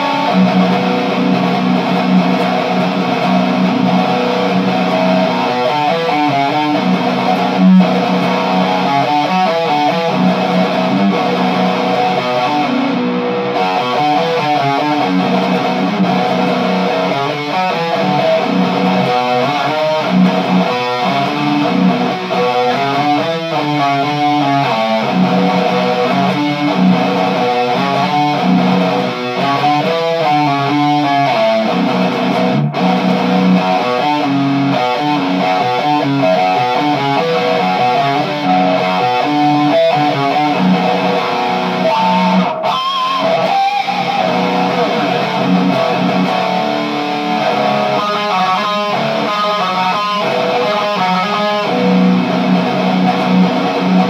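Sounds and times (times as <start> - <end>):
distorted electric guitar playing: 0.0 - 54.0.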